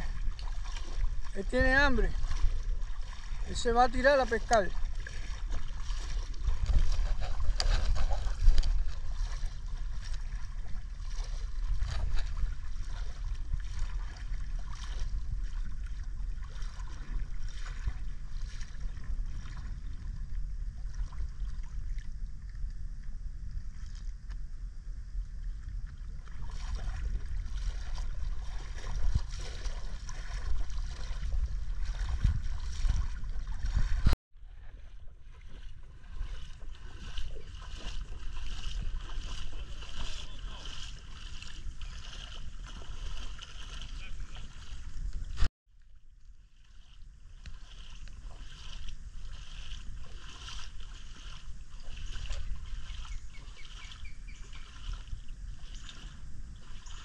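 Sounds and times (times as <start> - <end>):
wind on microphone: 0.0 - 45.5, 46.8 - 57.0
water lapping and splashing: 0.0 - 57.0.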